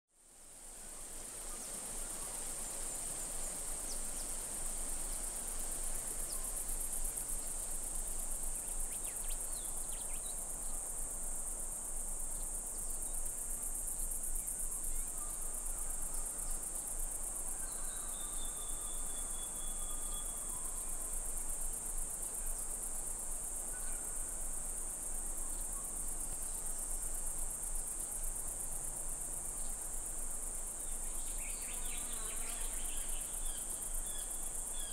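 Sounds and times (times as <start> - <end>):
insects trilling: 0.9 - 34.9.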